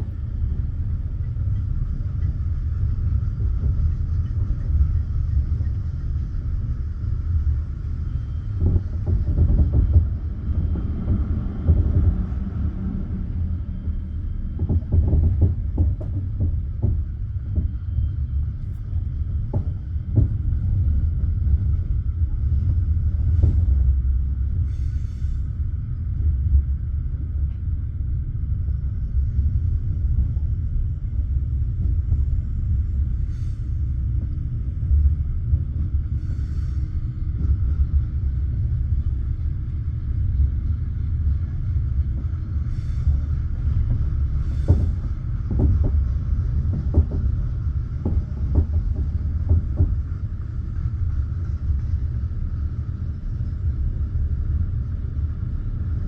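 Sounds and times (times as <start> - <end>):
train carriage rumble: 0.0 - 56.0.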